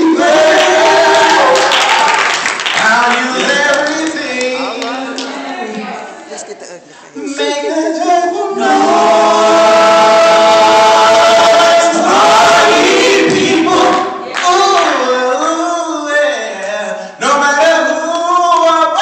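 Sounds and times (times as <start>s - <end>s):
male vocal group singing in harmony: 0.0s - 1.6s, 2.8s - 5.4s, 7.1s - 19.0s.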